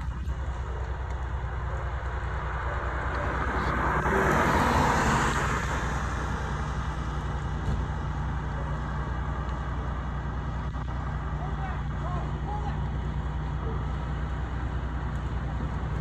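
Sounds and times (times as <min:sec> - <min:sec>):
fire engine rumbling: 0:00.0 - 0:16.0.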